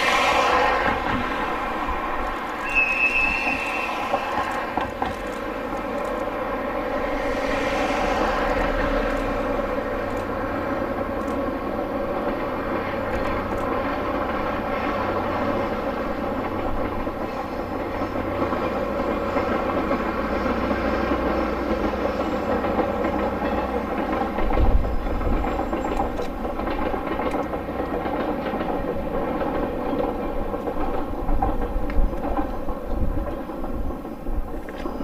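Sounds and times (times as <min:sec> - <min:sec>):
rail vehicle drone: 0:00.0 - 0:35.0.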